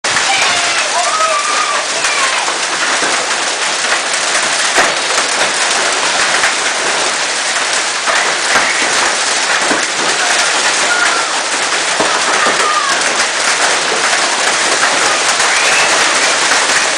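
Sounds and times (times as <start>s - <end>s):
hail pelting down: 0.0s - 16.9s.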